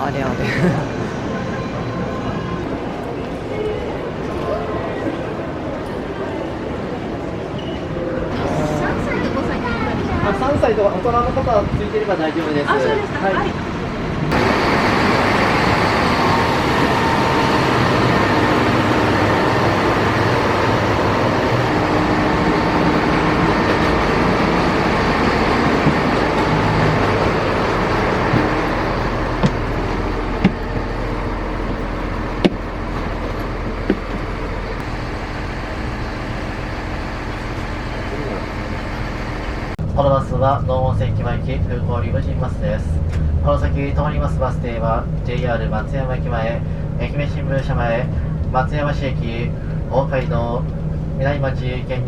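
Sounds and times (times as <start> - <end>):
bus engine and road noise: 0.0 - 52.0.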